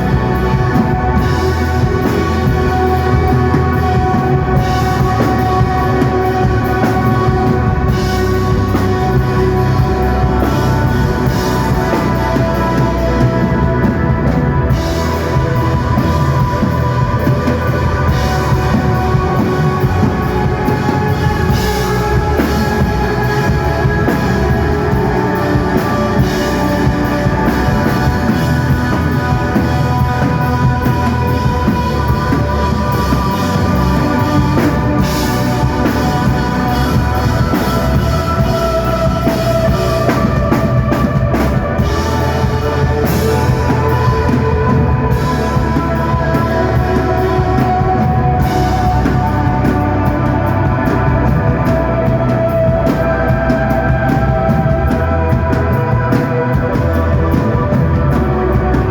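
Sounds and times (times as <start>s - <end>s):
electric guitar long notes: 0.0s - 58.9s
live rock band playing: 0.0s - 58.9s.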